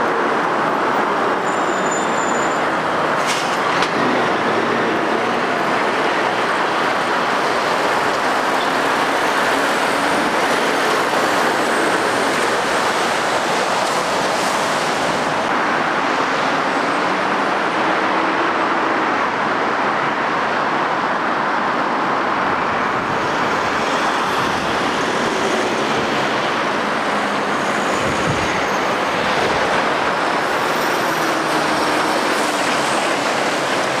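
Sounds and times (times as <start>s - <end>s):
diesel engines: 0.0s - 34.0s
road traffic passing: 0.0s - 34.0s.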